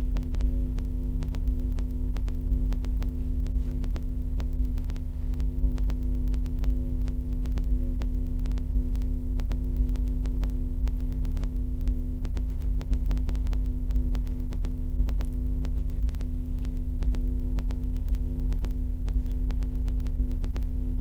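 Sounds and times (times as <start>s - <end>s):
electrical mains hum: 0.0s - 21.0s
small irregular clicks: 0.0s - 21.0s.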